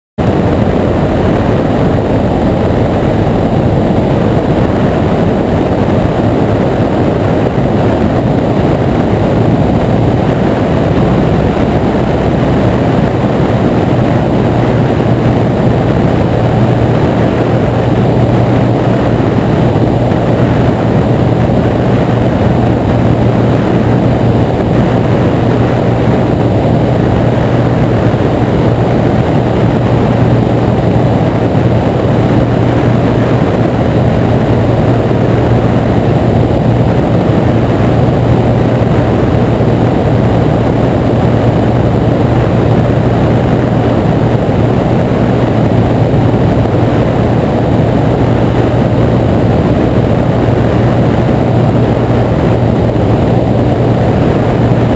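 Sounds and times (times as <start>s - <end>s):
air rushing over microphone: 0.2s - 54.9s
ultralight aircraft engine and propeller: 0.2s - 54.9s.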